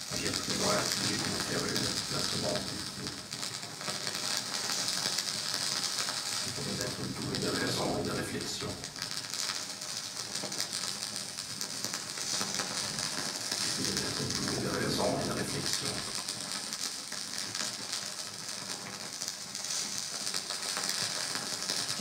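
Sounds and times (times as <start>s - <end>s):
crackling hissing electronic noise: 0.0s - 22.0s.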